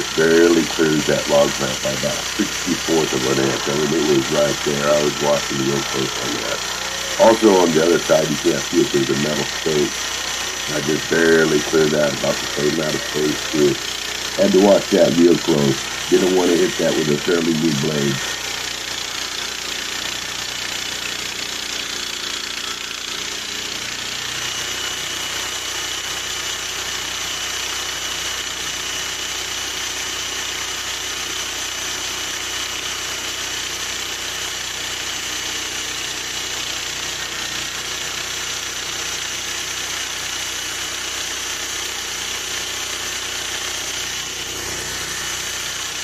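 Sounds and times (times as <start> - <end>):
band saw blade whine: 0.0 - 46.0
sawmill engine running: 0.0 - 46.0.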